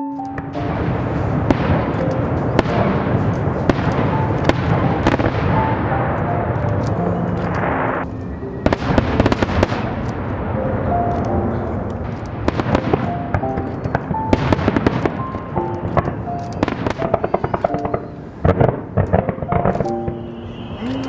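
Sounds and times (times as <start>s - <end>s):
fireworks crackling and banging: 0.3s - 21.0s.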